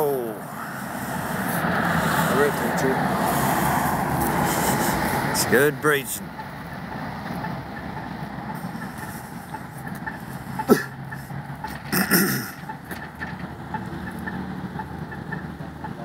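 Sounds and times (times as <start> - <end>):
road traffic engine hum: 0.0 - 16.0.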